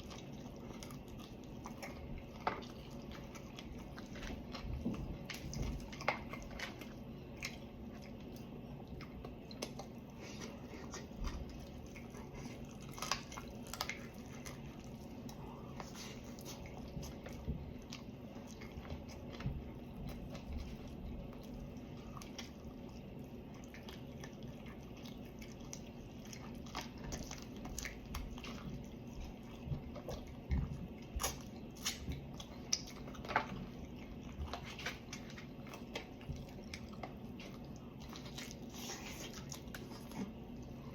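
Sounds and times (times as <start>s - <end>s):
person chewing and biting: 0.0s - 40.9s.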